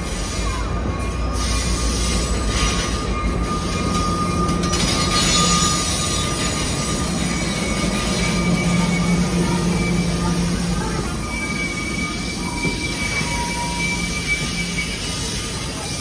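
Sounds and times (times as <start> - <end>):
high steel wheel squeal: 0.0 - 16.0
train wheels rumbling on rails: 0.0 - 16.0.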